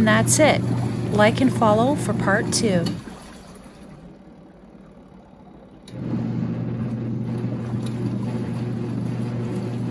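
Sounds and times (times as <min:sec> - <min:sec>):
washing machine motor humming: 0:00.0 - 0:09.9.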